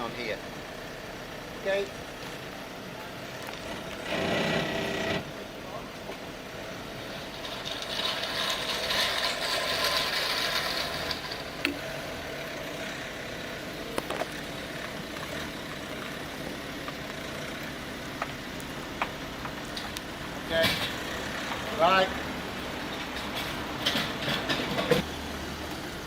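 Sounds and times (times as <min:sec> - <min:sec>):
van engine running: 0:00.0 - 0:26.0.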